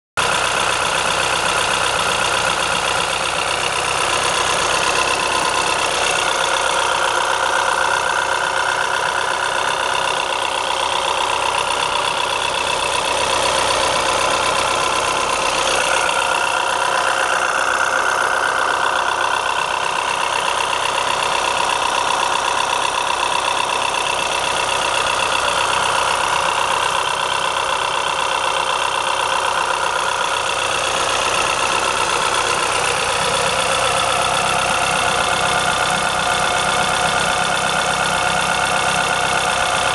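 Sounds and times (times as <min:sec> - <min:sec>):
vehicle engine idling: 0:00.2 - 0:39.9.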